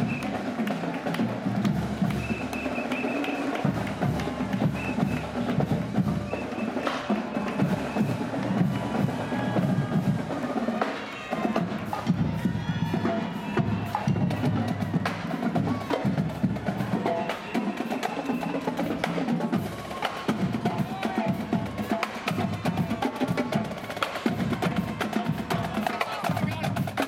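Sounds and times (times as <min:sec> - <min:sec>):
marching band playing: 0:00.0 - 0:27.0.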